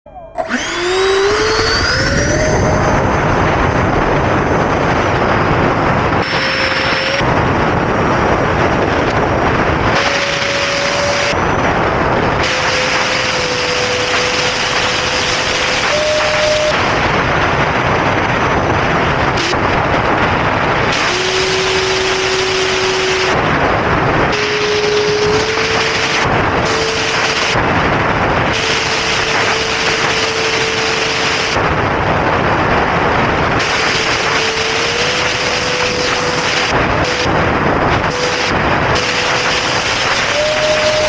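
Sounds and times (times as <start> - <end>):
electric ducted fan whine: 0.0 - 41.0.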